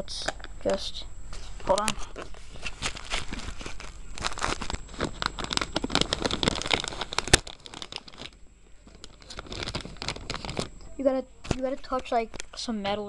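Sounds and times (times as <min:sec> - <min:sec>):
plastic wrapping crinkling: 0:01.5 - 0:12.7.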